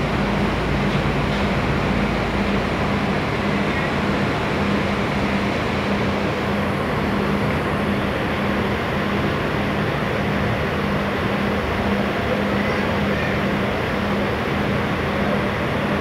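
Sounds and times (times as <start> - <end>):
bus diesel engine idling: 0.0 - 16.0.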